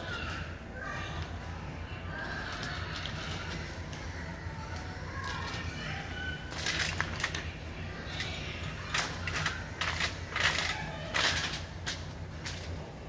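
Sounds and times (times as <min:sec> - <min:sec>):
steady low hum: 0:00.0 - 0:13.0
tin foil crinkling: 0:02.1 - 0:12.9.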